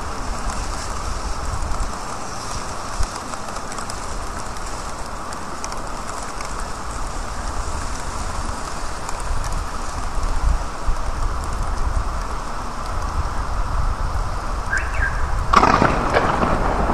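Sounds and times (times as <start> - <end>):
rain falling on wet street: 0.0 - 16.9
raindrops ticking: 0.0 - 16.9.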